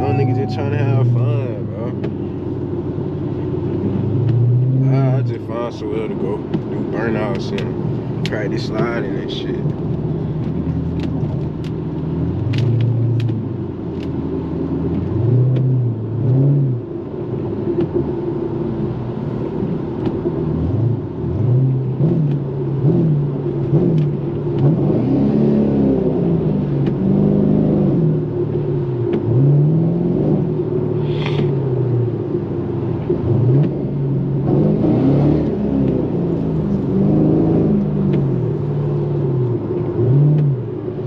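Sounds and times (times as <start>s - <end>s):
car engine revving while driving: 0.0s - 41.0s.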